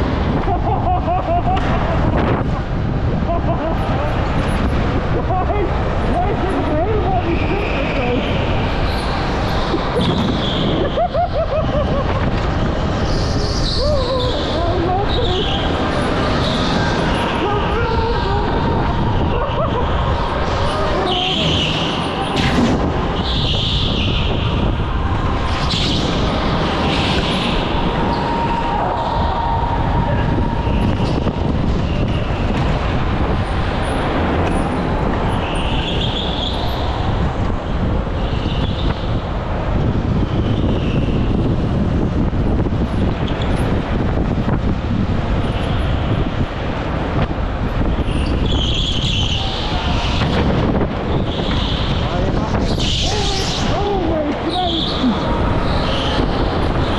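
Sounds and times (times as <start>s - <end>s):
wind on microphone: 0.0s - 56.9s.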